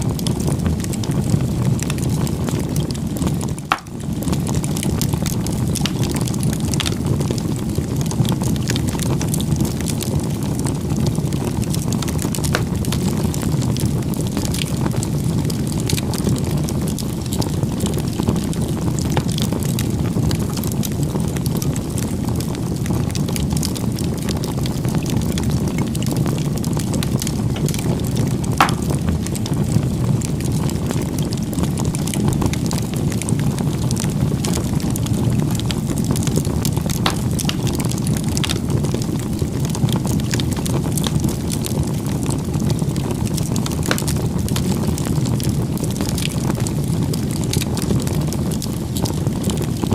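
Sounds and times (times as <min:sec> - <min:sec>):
campfire crackling: 0:00.0 - 0:49.9.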